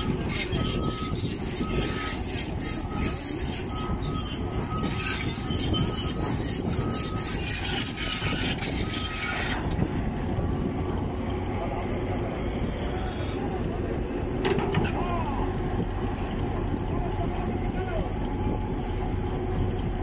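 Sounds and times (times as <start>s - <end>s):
diesel machinery rumbling: 0.0s - 20.0s.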